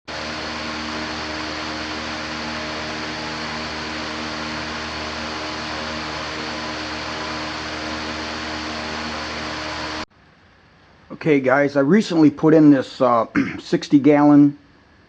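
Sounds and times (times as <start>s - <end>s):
low electric hum: 0.1s - 15.0s.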